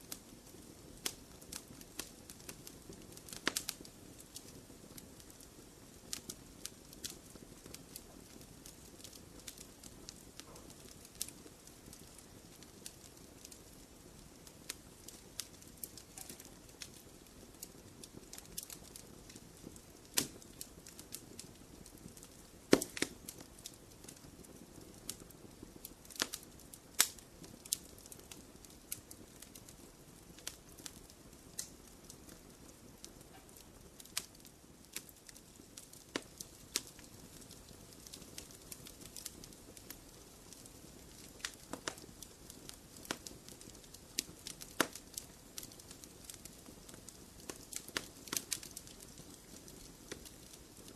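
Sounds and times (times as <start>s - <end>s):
fire pops and snaps: 0.0s - 50.9s
wood fire crackling: 0.0s - 50.9s.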